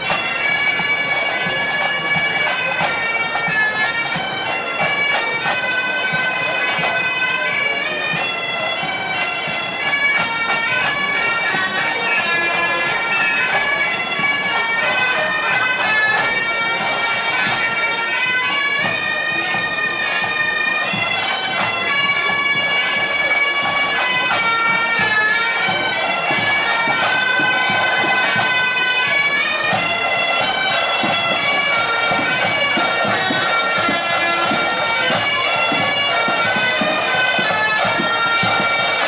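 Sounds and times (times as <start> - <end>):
bagpipes playing melody: 0.0 - 39.0
marching drums: 0.0 - 39.0.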